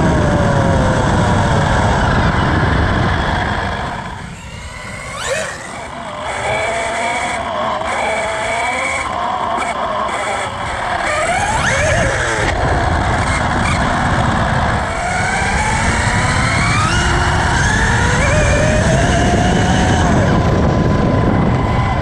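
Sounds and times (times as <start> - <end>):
electric motor whine: 0.0 - 22.0
wind: 0.0 - 22.0.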